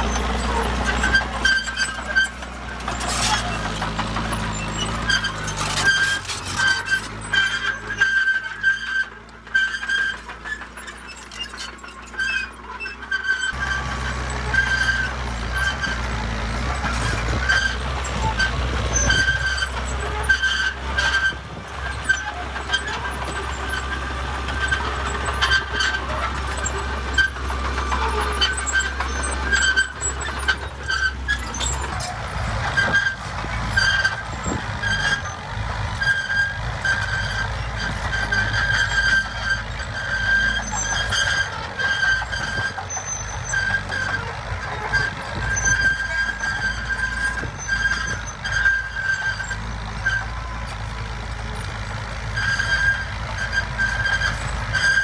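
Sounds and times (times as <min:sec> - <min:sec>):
bulldozer diesel engine rumble: 0:00.0 - 0:55.0
high squeal: 0:10.8 - 0:55.0.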